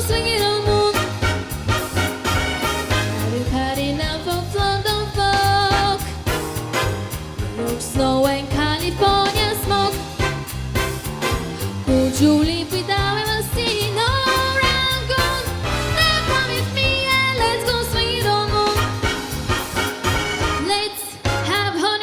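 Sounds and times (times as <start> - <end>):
swing music: 0.0 - 22.0.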